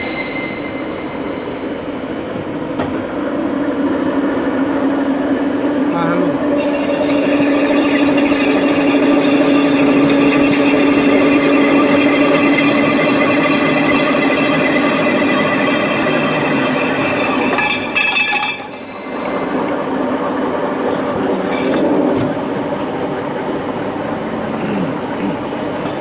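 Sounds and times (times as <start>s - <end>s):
pipe cutting machine running: 0.0s - 24.4s.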